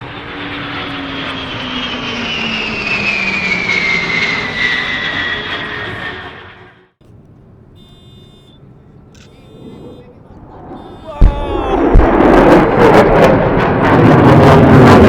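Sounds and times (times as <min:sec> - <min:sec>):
aircraft engine passing overhead: 0:00.0 - 0:07.9, 0:08.5 - 0:15.0.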